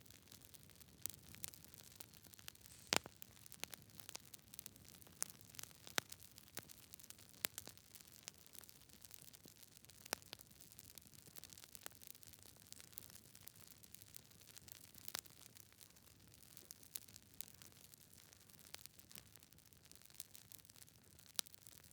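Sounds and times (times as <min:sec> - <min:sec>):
low rumble of burning fire: 0:00.0 - 0:21.9
campfire crackling and popping: 0:00.1 - 0:21.8.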